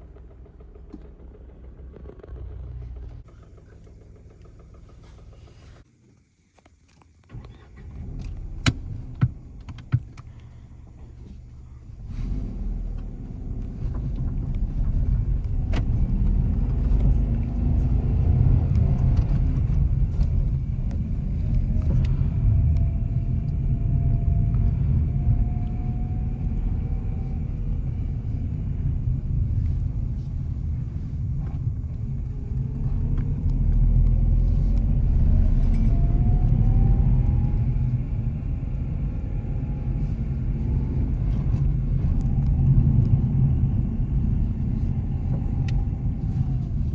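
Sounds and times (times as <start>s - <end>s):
car engine accelerating: 0.0s - 5.9s, 7.3s - 46.9s.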